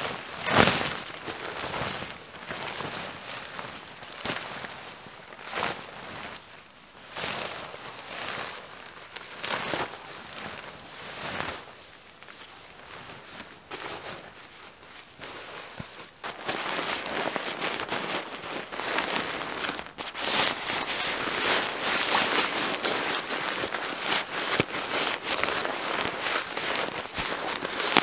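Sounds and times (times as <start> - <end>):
tarp fabric rustling and crinkling: 0.0 - 28.0.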